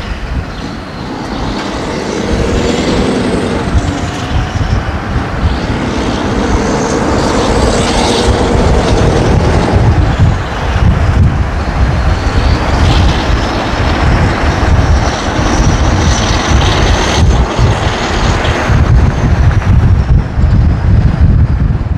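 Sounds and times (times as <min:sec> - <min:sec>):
truck engine deep rumble: 0:00.0 - 0:21.9.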